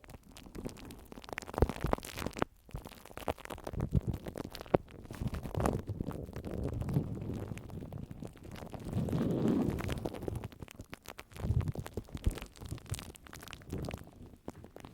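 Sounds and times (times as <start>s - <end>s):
scratching and crackling: 0.0s - 14.9s.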